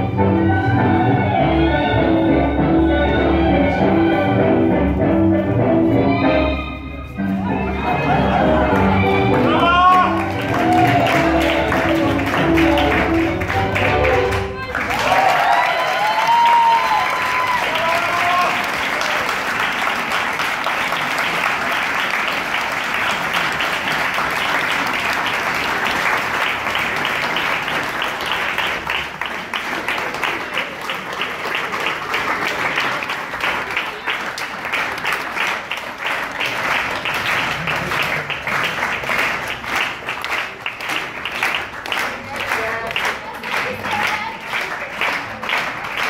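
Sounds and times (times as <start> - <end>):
audience applauding: 8.0 - 46.0.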